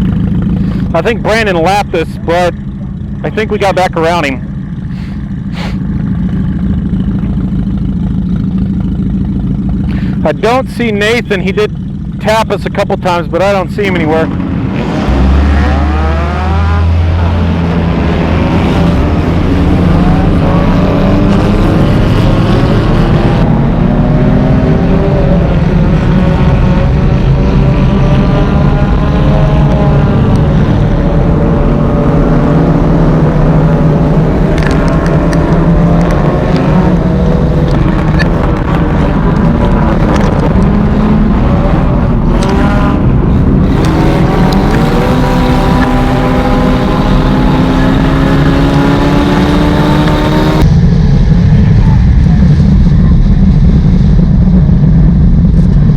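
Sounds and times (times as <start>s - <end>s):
other cars' engines: 0.0s - 55.9s
race car engine revving: 0.0s - 55.9s.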